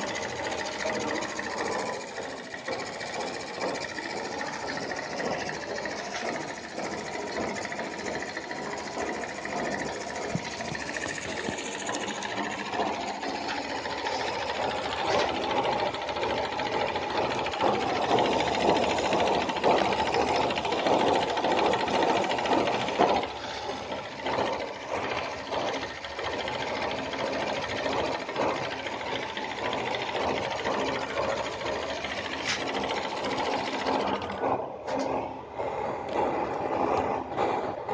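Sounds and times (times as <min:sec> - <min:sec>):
model steam engine clattering: 0:00.0 - 0:37.9.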